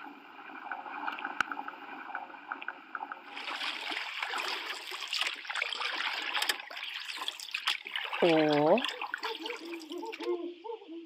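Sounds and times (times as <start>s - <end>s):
water rushing and splashing: 0.0s - 10.2s
water bubbling softly: 0.0s - 10.3s.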